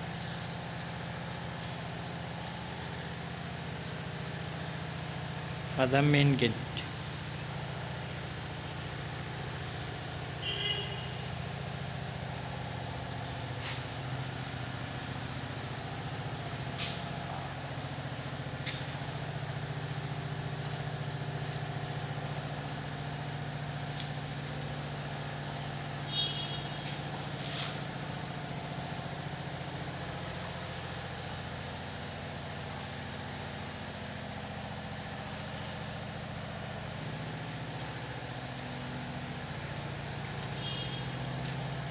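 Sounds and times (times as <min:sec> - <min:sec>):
low engine hum: 0:06.4 - 0:41.9.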